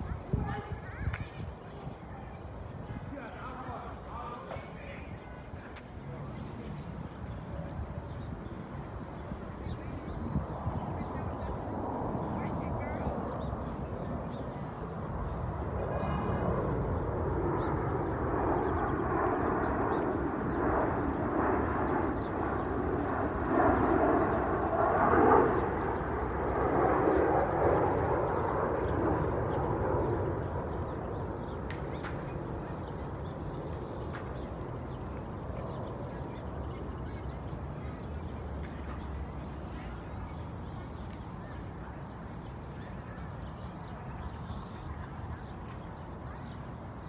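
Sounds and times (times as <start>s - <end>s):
airplane passing overhead: 0.0s - 47.0s.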